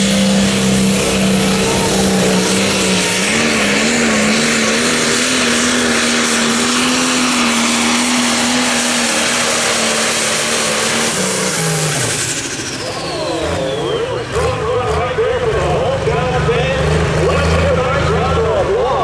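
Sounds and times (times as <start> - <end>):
diesel tractor engine at full throttle: 0.0 - 19.0.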